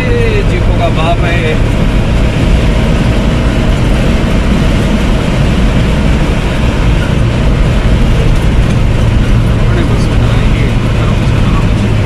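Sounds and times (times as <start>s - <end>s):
vehicle driving at speed: 0.0s - 12.0s
wind buffeting microphone: 0.0s - 12.0s.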